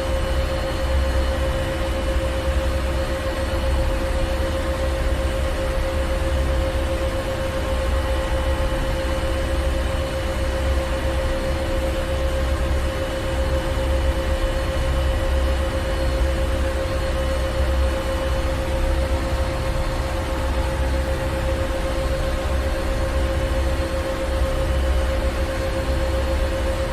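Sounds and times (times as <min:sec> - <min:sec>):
machinery hum: 0:00.0 - 0:26.9.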